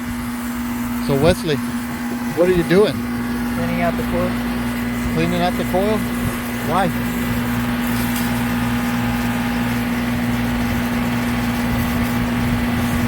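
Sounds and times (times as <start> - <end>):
air conditioner compressor hum: 0.0 - 13.0
hose spraying water: 0.0 - 13.0.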